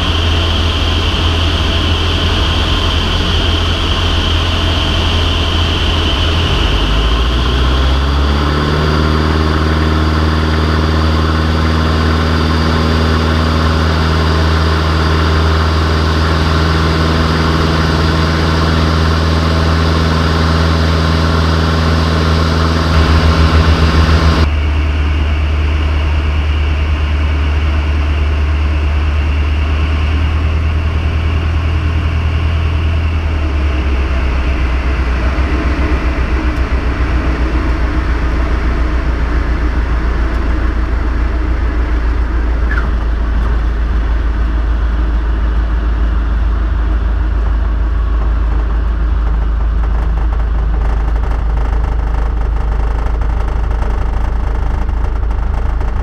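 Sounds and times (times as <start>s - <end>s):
aircraft engine and propeller: 0.0s - 56.0s.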